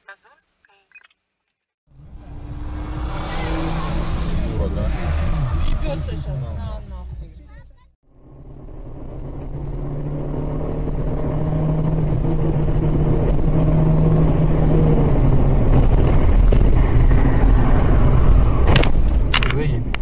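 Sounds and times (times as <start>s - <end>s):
car engine: 1.9s - 20.0s
road noise rumble: 1.9s - 20.0s.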